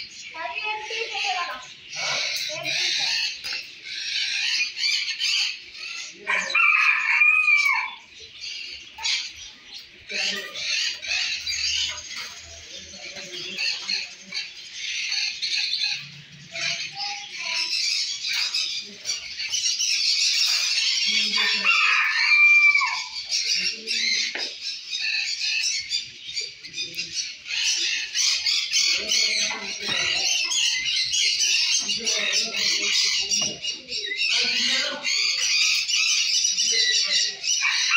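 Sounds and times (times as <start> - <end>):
caged birds chirping: 0.0 - 37.9.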